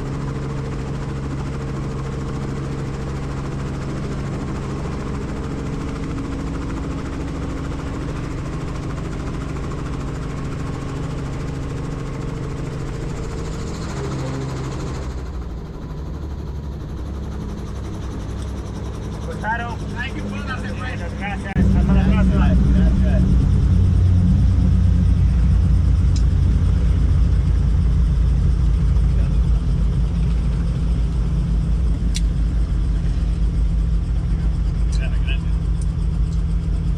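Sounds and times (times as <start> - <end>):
helicopter engine and rotor: 0.0 - 36.9.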